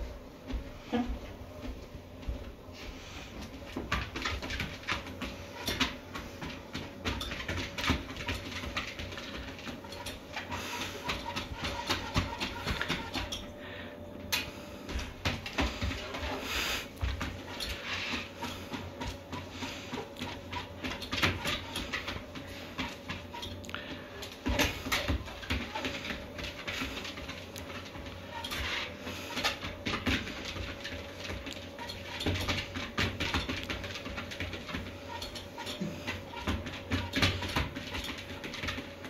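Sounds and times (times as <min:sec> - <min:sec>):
dog paws pattering on treadmill: 0:00.0 - 0:39.0
treadmill motor hum: 0:00.0 - 0:39.0.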